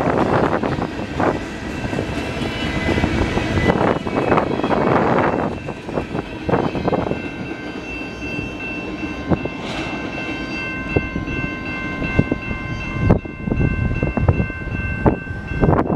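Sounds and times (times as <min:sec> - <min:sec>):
train rumble: 0:00.0 - 0:15.9
high ringing tone: 0:01.7 - 0:15.9.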